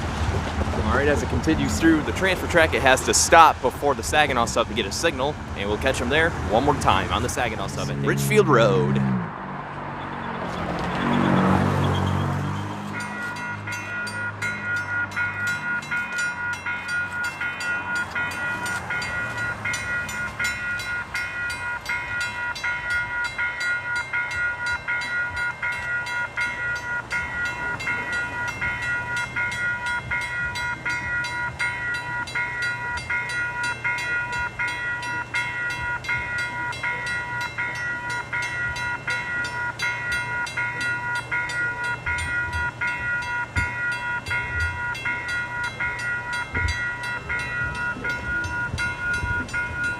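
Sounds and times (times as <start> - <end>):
crossing bell ringing: 0.0 - 9.2, 10.8 - 49.9
train rumble: 0.0 - 9.4, 10.4 - 49.9.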